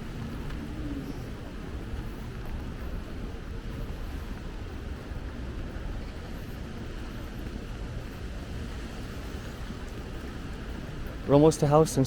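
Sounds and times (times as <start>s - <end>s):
city street rumble: 0.0s - 12.0s
distant traffic: 0.0s - 12.0s.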